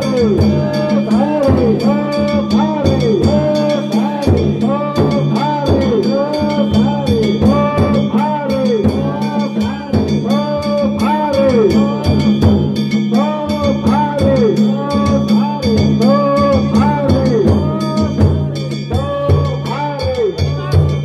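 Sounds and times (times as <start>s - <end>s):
drums beating: 0.0s - 21.0s.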